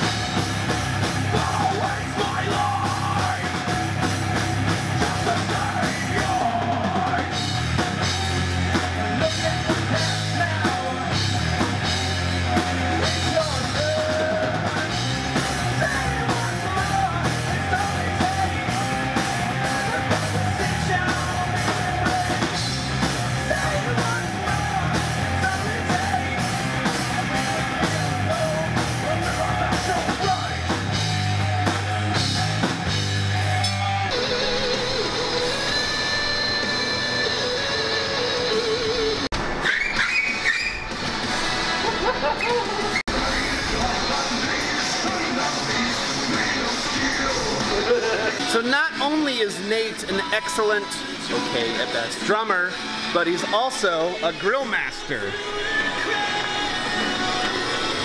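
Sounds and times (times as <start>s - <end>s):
rock band playing: 0.0s - 39.6s, 40.7s - 58.0s
singer yelling and singing: 1.0s - 32.2s, 42.6s - 58.0s.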